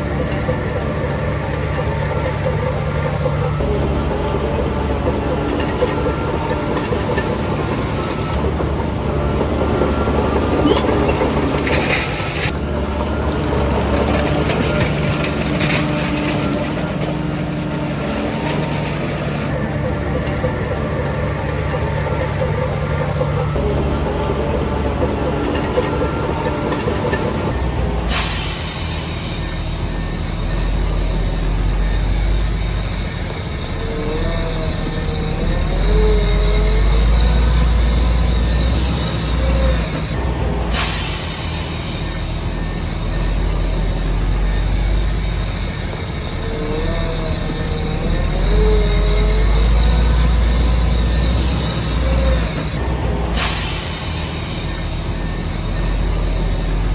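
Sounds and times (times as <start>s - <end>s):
diesel machinery engine drone: 0.0s - 56.9s
rumbling and clattering: 0.0s - 56.9s.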